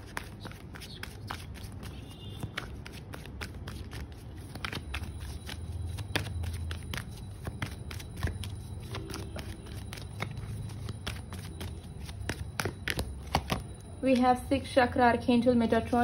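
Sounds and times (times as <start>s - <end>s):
cards being shuffled: 0.0s - 13.8s.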